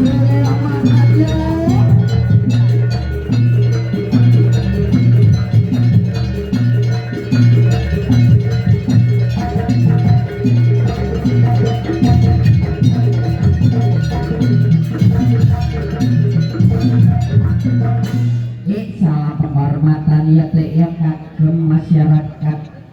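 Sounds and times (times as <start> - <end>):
drums: 0.0 - 19.8
struck pitched percussion: 0.0 - 20.0.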